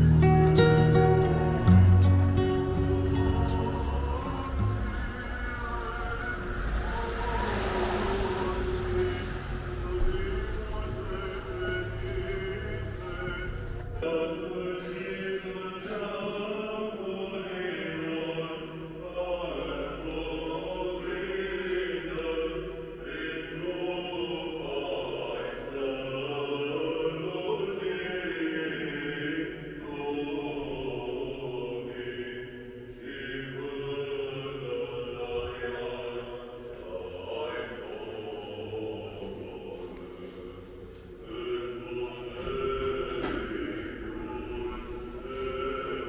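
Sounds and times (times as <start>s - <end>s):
choir singing a slow chant: 0.0s - 46.0s.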